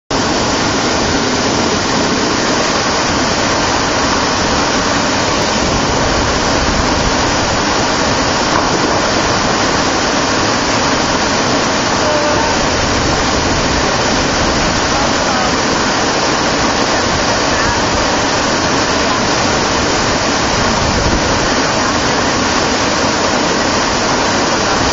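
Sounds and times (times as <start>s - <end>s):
waterfall rushing: 0.1s - 24.9s.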